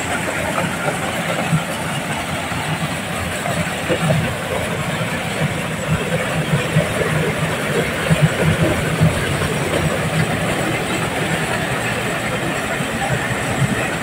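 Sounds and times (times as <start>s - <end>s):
corn sheller engine running: 0.0s - 14.0s.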